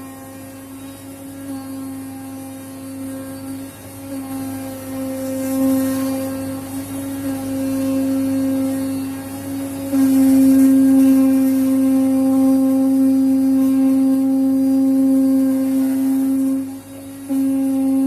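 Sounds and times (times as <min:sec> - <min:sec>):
fabric cutter pitched hum: 0:00.0 - 0:18.0.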